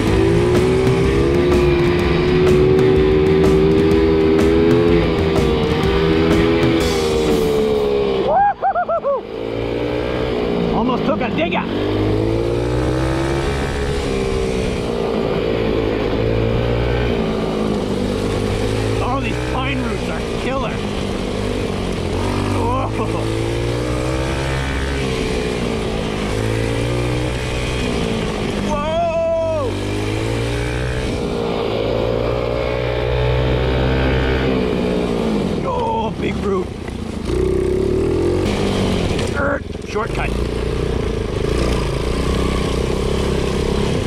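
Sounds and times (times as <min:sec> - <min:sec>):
quad engine running: 0:00.0 - 0:44.0.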